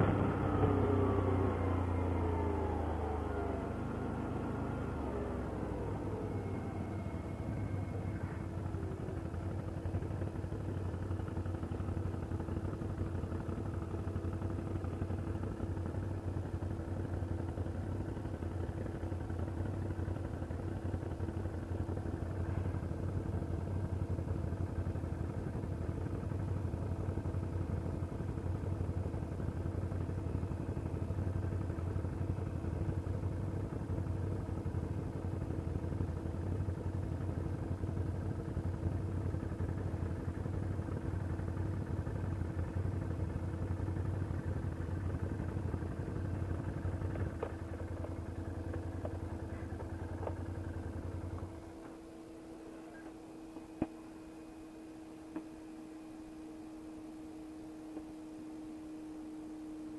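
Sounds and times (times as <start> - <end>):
atv engine humming: 0.0 - 59.9.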